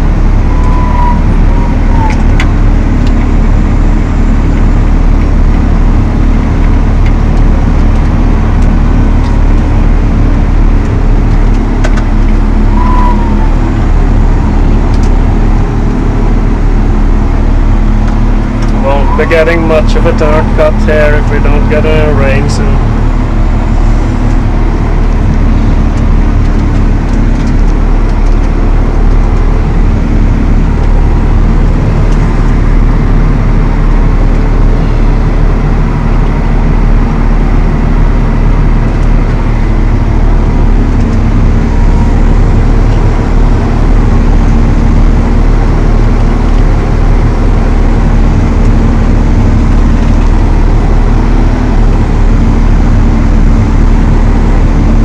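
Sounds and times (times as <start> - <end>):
tractor engine droning under load: 0.0 - 55.0.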